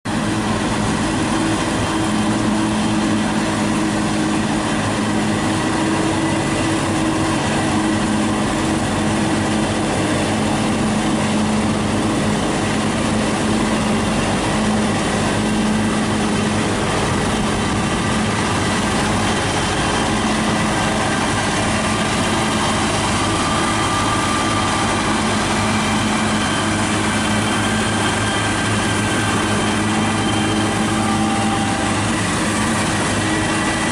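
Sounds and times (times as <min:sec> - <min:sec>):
forage harvester and tractor running: 0:00.0 - 0:33.9.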